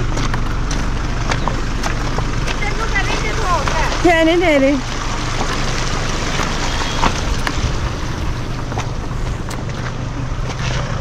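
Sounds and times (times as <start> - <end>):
steady noisy rush: 0.0 - 11.0
vehicle engine running slowly: 0.0 - 11.0.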